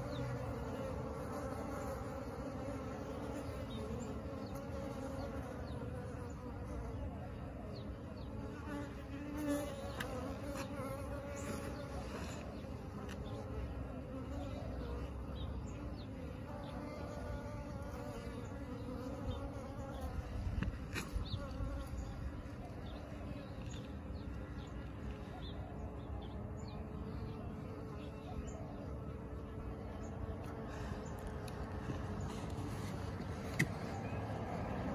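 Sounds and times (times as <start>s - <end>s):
swarm of bees buzzing: 0.0s - 34.9s.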